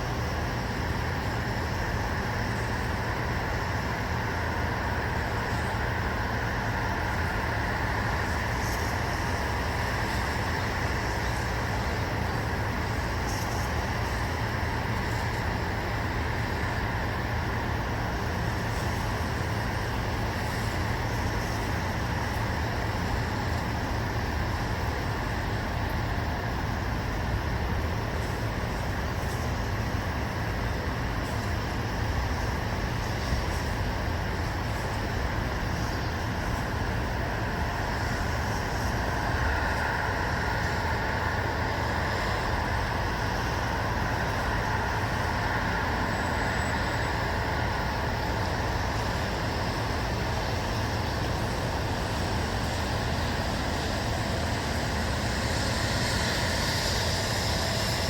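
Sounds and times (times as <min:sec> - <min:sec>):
white noise ambience: 0:00.0 - 0:58.0.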